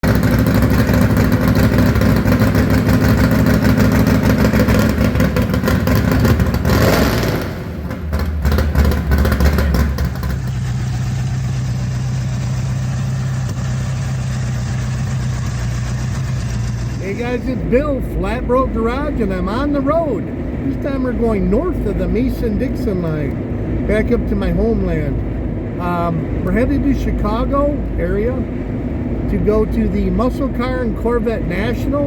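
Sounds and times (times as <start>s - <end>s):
engine clattering: 0.0s - 32.0s
vehicle engine running: 0.0s - 32.0s.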